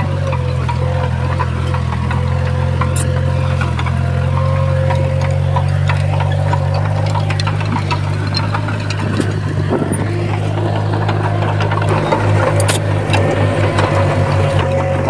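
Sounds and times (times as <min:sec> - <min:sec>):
bulldozer diesel engine running: 0:00.0 - 0:15.0
metallic clanks and rattles: 0:00.0 - 0:15.0.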